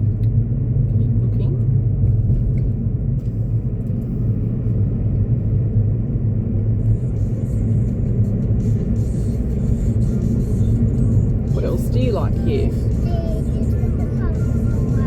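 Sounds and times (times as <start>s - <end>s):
low road rumble inside car: 0.0s - 15.0s.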